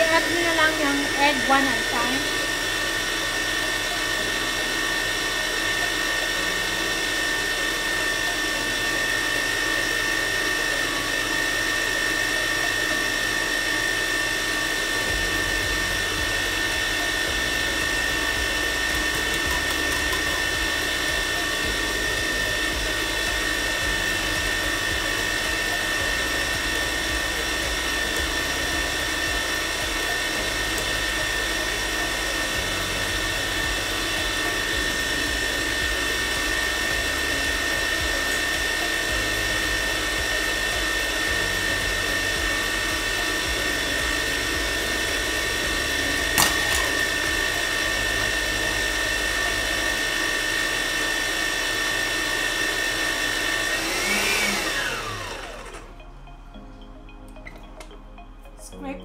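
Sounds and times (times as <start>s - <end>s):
electric mixer motor whine: 0.0s - 58.0s.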